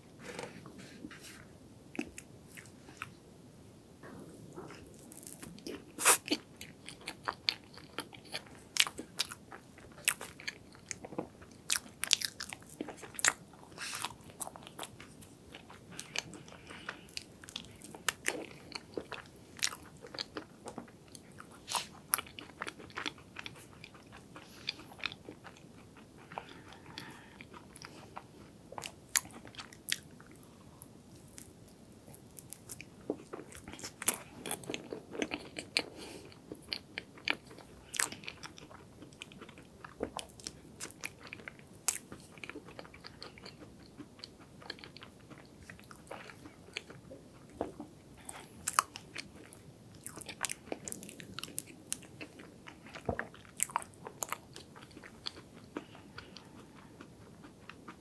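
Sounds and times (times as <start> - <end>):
person chewing cake: 4.0 - 58.0.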